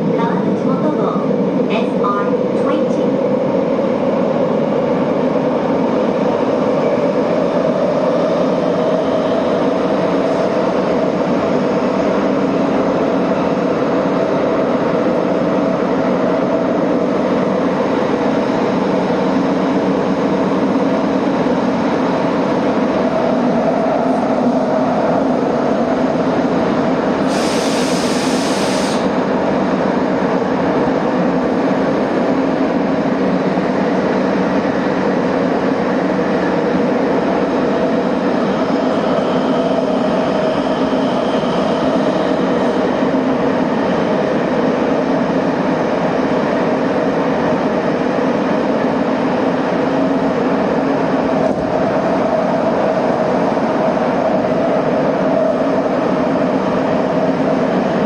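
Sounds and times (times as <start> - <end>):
train wheels rumbling in tunnel: 0.0 - 58.0.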